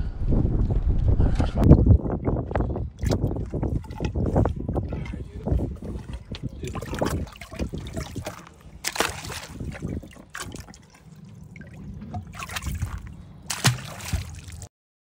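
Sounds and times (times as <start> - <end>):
water splashing in a tank: 1.6 - 14.7.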